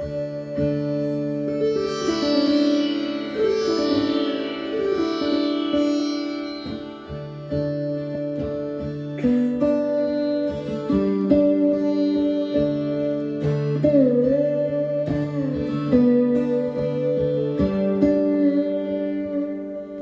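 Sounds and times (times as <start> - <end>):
lap slide guitar playing: 0.0 - 20.0.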